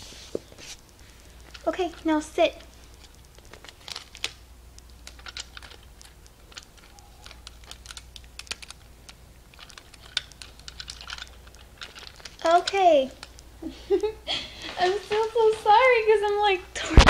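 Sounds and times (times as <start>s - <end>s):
small objects clicking and tapping: 0.9s - 15.6s.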